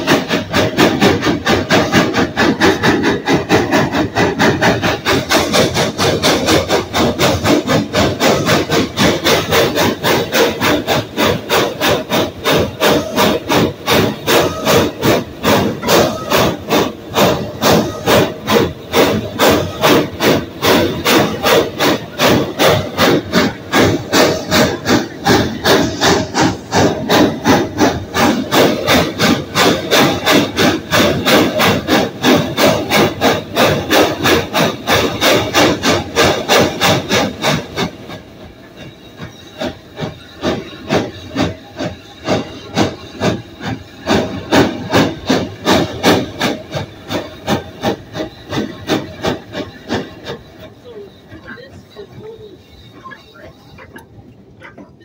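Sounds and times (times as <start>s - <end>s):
steam locomotive exhaust chuffing: 0.0s - 55.0s.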